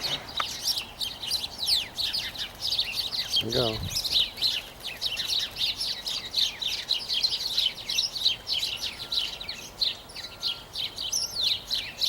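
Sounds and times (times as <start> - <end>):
flock of small birds chirping: 0.0 - 12.0.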